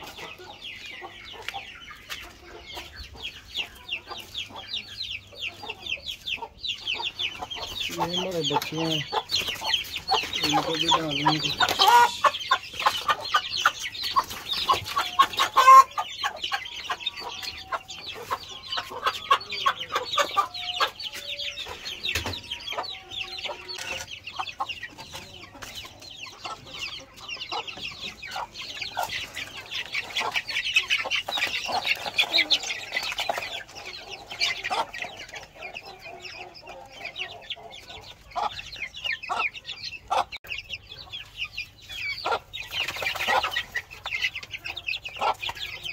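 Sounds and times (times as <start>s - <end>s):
chicks peeping: 0.0s - 45.9s
hen clucking: 0.0s - 45.9s.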